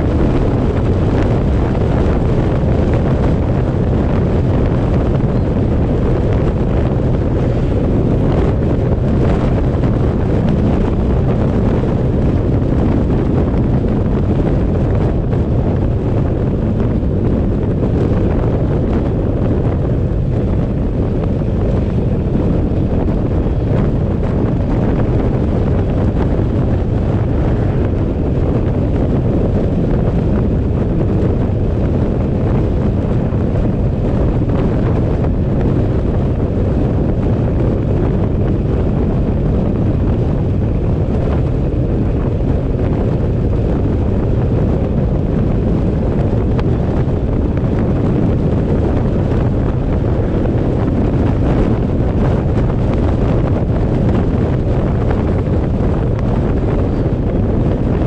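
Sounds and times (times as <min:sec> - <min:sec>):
road and engine noise: 0:00.0 - 0:58.0
wind rumble on microphone: 0:00.0 - 0:58.0.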